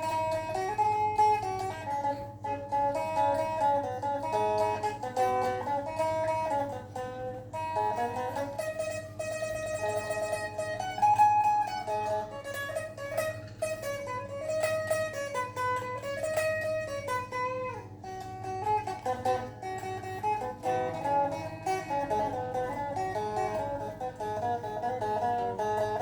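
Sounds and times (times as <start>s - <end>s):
plucked lute melody over drone: 0.0s - 26.0s.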